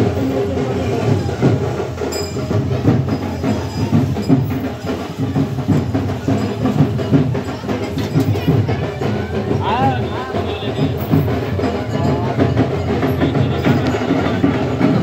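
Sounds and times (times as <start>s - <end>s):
music with drums and percussion: 0.0s - 15.0s.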